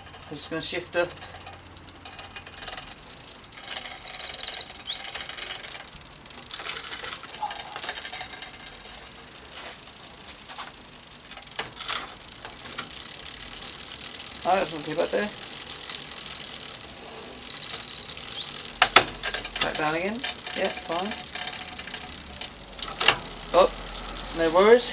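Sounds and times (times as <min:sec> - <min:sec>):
bicycle chain ticking and clicking: 0:00.0 - 0:24.9.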